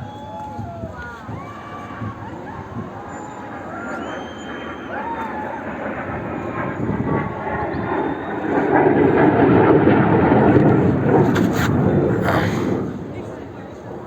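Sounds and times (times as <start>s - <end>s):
aircraft roar overhead: 0.0s - 14.0s.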